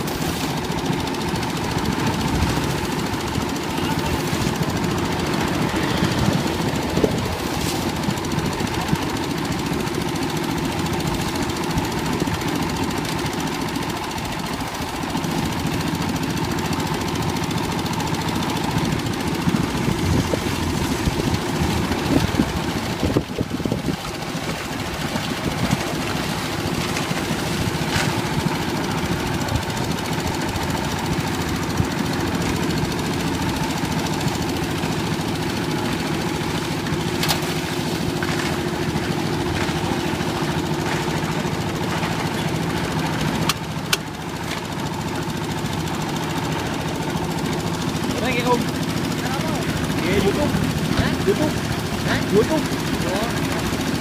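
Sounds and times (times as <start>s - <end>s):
diesel engine knocking: 0.0s - 54.0s.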